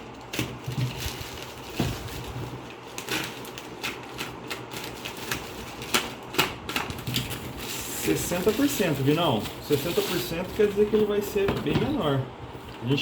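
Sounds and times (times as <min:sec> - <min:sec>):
packaging clicks taps and rustles: 0:00.0 - 0:11.5.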